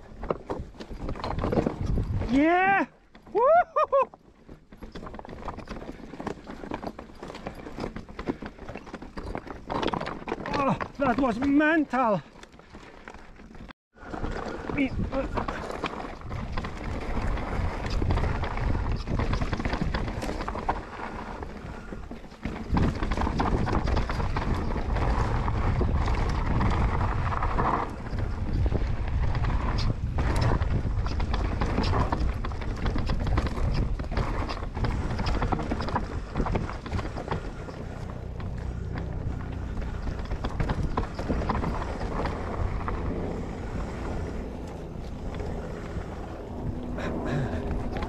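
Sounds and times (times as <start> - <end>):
tyres rumbling over dirt and stones: 0.0 - 3.4, 4.1 - 48.0
bike chain and frame clatter: 4.4 - 46.2.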